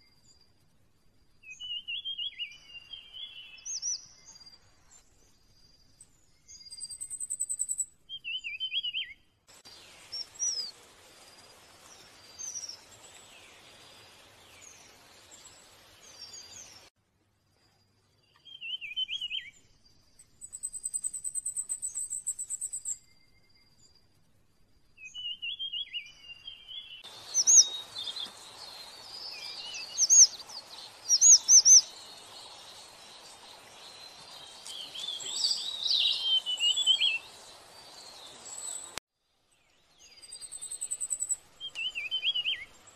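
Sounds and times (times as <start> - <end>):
background hiss: 0.0 - 42.9
songbirds chirping: 0.0 - 42.9.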